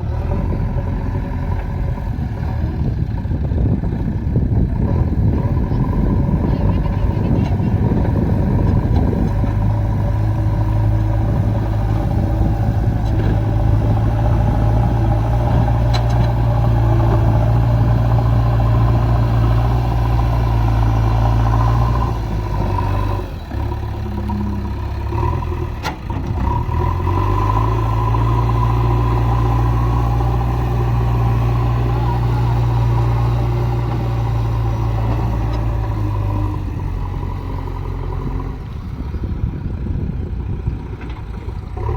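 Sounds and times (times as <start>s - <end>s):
diesel engine droning under load: 0.0s - 41.9s.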